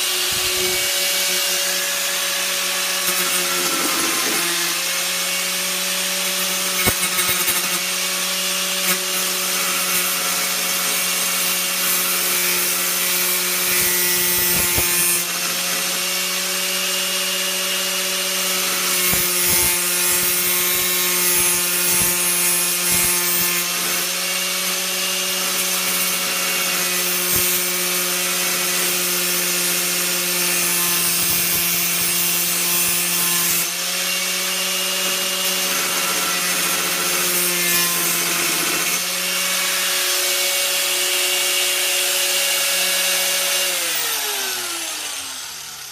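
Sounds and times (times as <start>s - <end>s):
angle grinder cutting steel: 0.0s - 45.9s.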